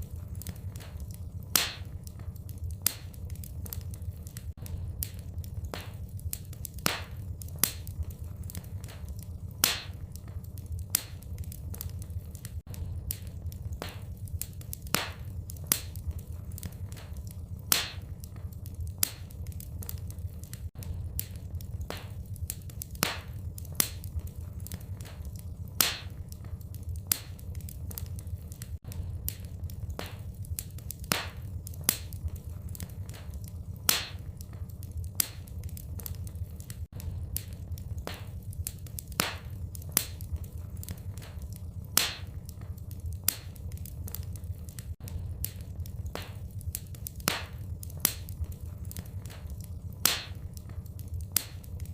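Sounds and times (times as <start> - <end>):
low rumble: 0.0 - 51.9
wood fire crackling: 0.0 - 51.9.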